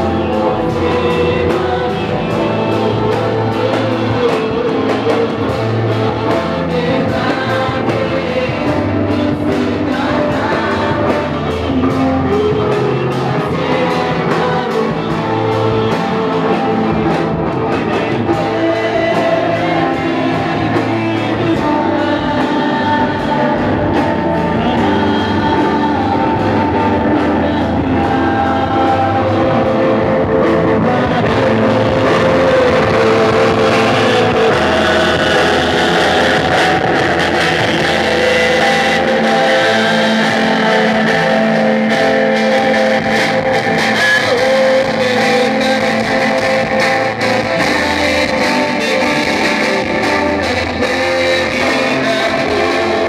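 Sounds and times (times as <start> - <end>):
instrumental accompaniment: 0.0 - 53.0
mixed choir singing: 0.0 - 53.0.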